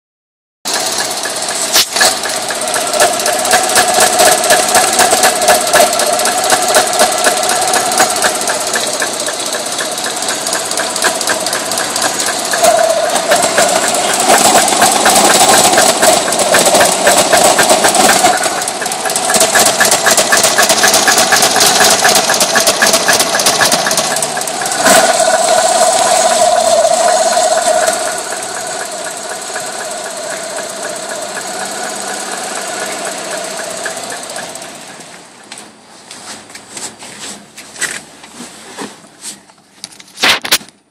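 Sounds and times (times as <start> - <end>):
car engine knocking: 0.7 - 35.8.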